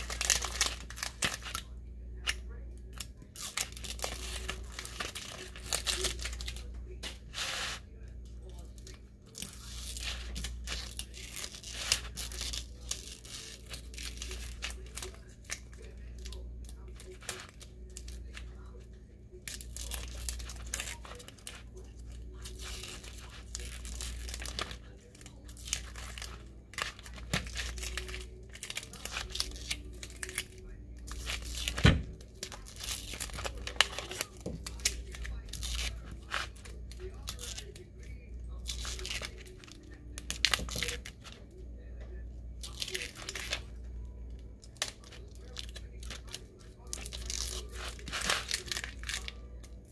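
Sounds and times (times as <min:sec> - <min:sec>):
vinyl peeling and crinkling: 0:00.0 - 0:49.9.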